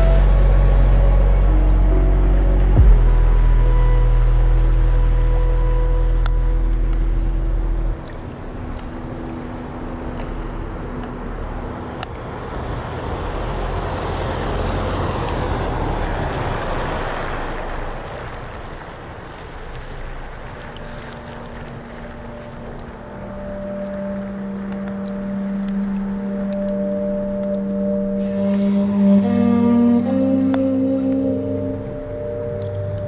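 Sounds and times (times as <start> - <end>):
low drone tones: 0.0 - 33.0
rushing rain: 0.0 - 33.0
wind: 0.0 - 33.0.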